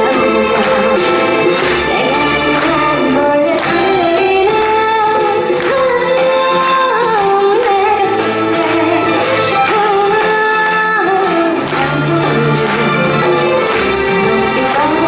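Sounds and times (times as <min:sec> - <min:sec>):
instrumental accompaniment: 0:00.0 - 0:15.0
woman singing into microphone: 0:00.0 - 0:15.0.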